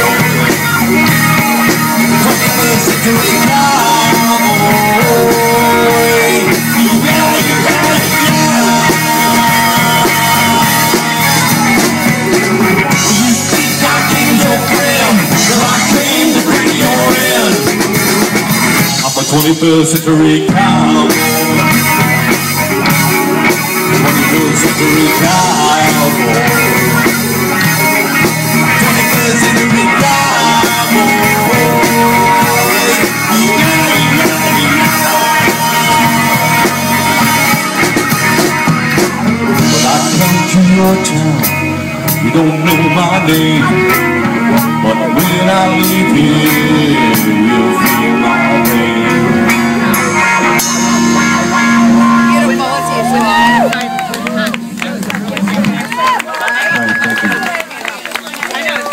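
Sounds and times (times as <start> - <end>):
lead guitar line bending pitch: 0.0 - 56.0
instrumental rock music: 0.0 - 58.7.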